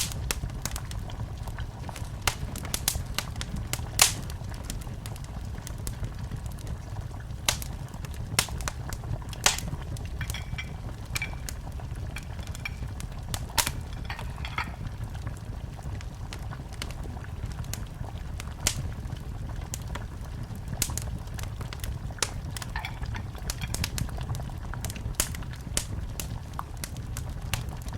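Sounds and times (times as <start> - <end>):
fire crackling and popping: 0.0 - 27.9
fire flames rumbling: 0.0 - 27.9.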